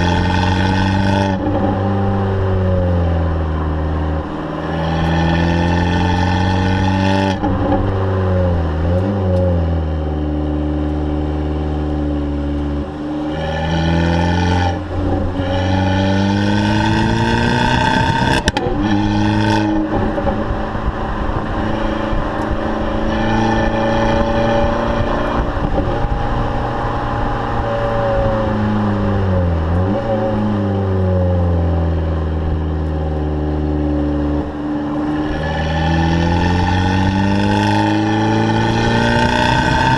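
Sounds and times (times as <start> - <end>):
car engine running through exhaust: 0.0 - 39.9.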